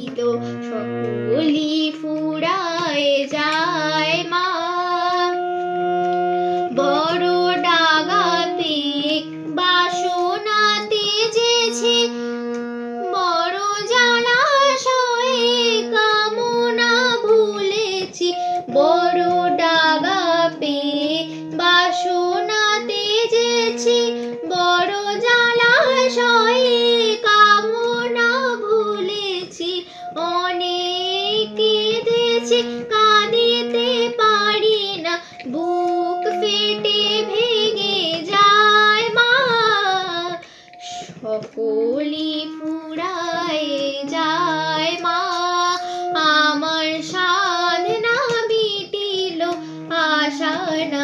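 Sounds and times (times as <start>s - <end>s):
keyboard held notes: 0.0s - 51.0s
woman singing devotional song: 0.0s - 51.0s.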